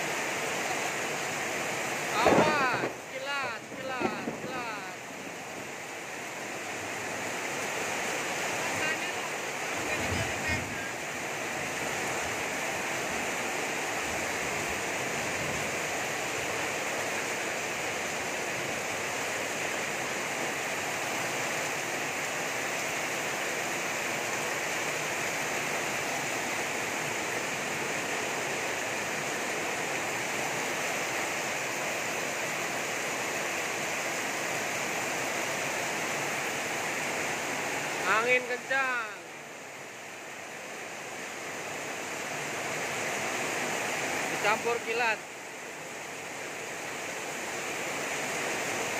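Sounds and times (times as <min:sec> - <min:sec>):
torrential rain pouring: 0:00.0 - 0:48.9.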